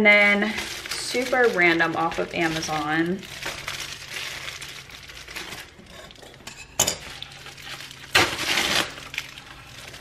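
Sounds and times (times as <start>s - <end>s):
plastic packaging crinkling: 0.1s - 10.0s
sharp plastic crackles: 0.4s - 6.2s, 7.1s - 10.0s.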